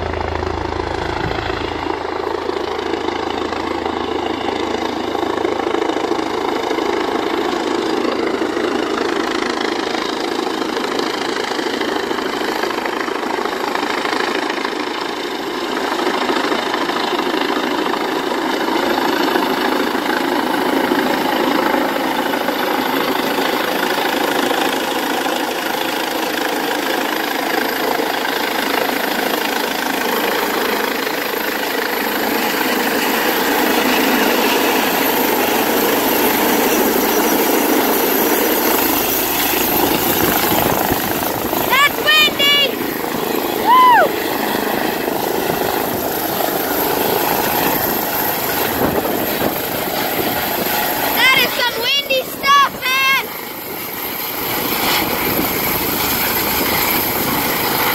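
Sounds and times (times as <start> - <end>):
helicopter turbine and rotors: 0.0 - 57.9.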